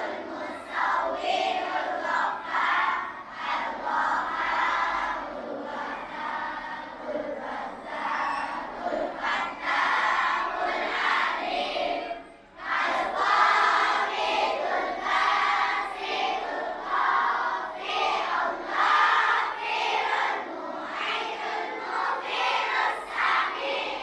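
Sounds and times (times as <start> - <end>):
children chanting in unison: 0.0 - 24.0.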